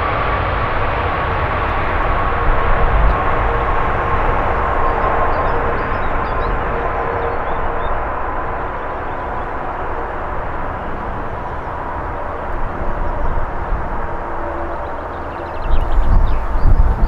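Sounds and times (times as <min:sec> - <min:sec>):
jet engines whining: 0:00.0 - 0:17.0
wind rumbling on microphone: 0:00.0 - 0:17.0.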